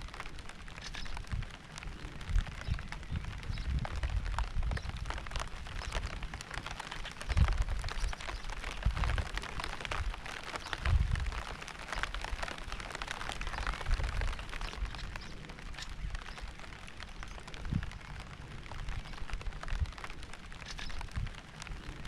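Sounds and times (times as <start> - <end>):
rain pattering on a surface: 0.0 - 22.0.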